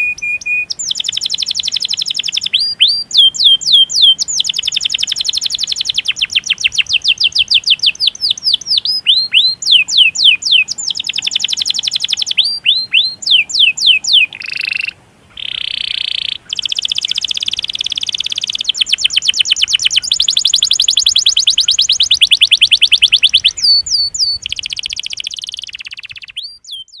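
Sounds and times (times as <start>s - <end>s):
canary singing rapid rolls: 0.0s - 27.0s.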